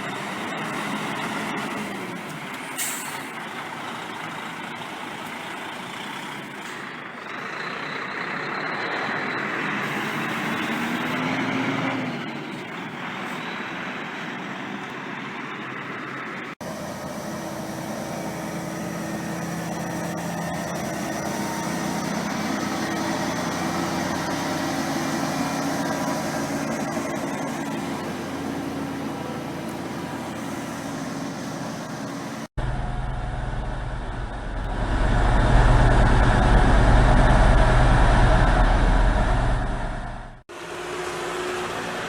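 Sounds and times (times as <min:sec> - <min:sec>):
deep loud engine: 0:00.0 - 0:42.0
heavy diesel engine running: 0:00.0 - 0:42.0.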